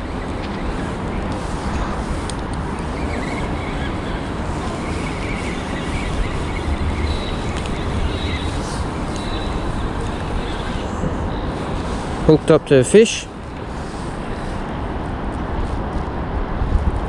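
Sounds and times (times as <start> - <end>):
city noise: 0.0 - 17.0
wind rumble on microphone: 0.0 - 17.0.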